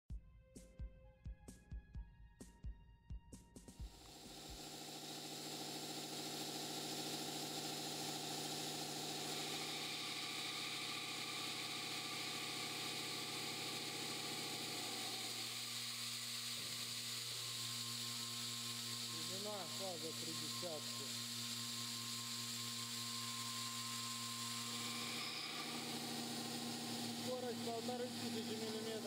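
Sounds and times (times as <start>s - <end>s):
milling machine whine: 3.8s - 29.0s
metal cutting hiss: 4.0s - 29.0s.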